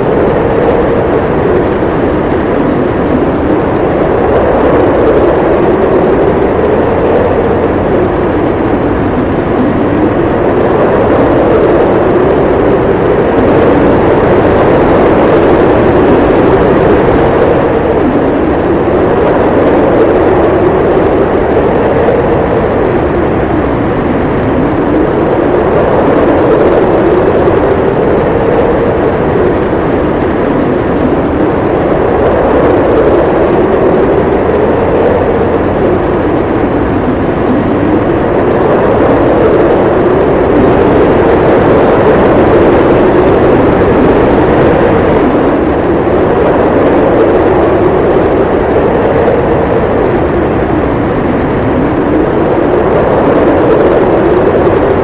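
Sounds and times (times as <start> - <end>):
howling snowstorm wind: 0.0 - 55.0.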